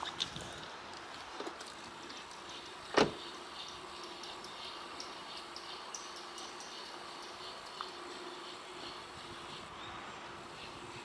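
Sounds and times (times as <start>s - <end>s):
steady low hum: 1.8s - 11.0s.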